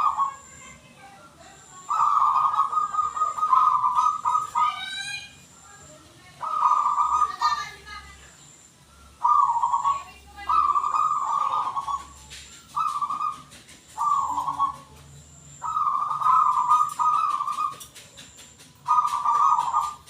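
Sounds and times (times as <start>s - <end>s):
dove cooing: 0.0s - 8.2s, 9.0s - 20.0s.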